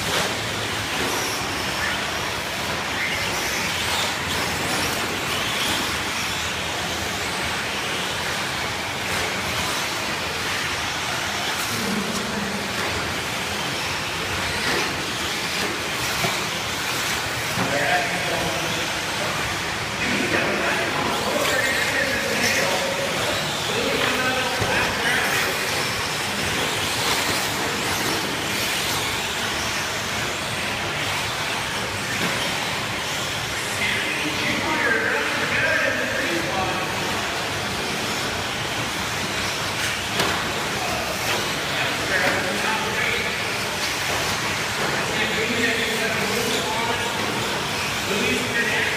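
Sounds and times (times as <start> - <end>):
electric motors whining: 0.0 - 48.9
rc trucks racing: 0.0 - 48.9.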